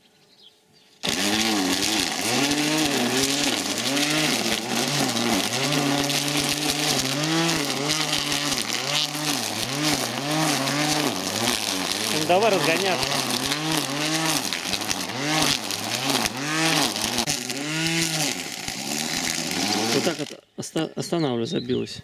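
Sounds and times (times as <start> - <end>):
grass trimmer cutting weeds: 1.0 - 20.4.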